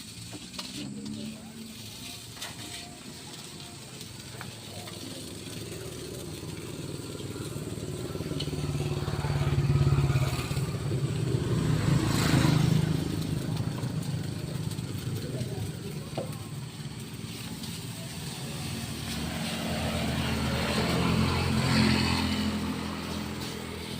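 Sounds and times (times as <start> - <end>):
vehicles passing: 0.0 - 23.9.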